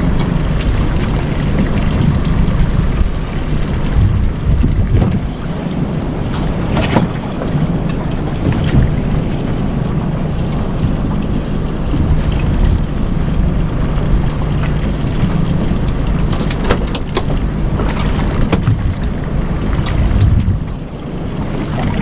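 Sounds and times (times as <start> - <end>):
boat engine humming: 0.0 - 22.0
wind on microphone: 0.0 - 22.0.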